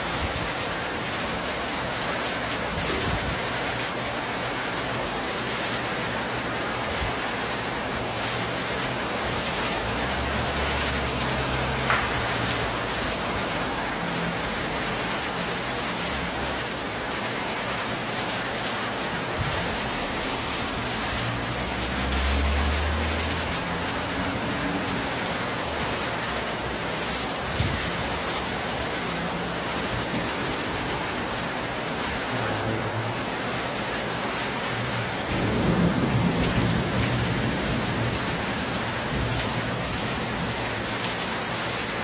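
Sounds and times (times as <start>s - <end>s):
heavy rain in wind: 0.0s - 42.0s.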